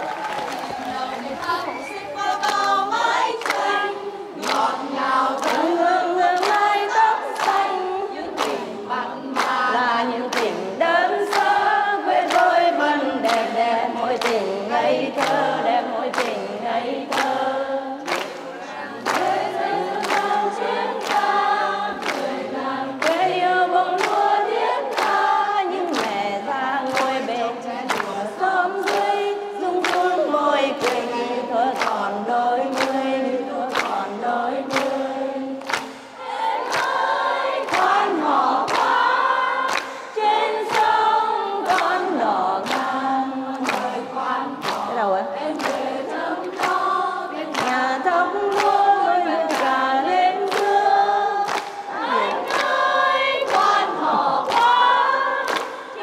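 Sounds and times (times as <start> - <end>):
crowd singing in unison: 0.0 - 56.0
sharp rhythmic claps: 0.0 - 56.0.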